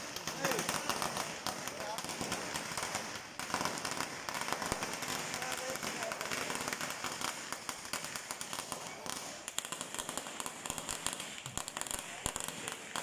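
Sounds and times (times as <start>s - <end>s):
firecrackers popping: 0.0s - 13.0s.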